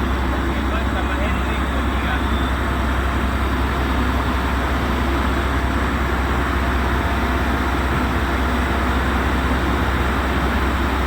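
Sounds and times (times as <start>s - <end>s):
ship engine machinery drone: 0.0s - 11.0s.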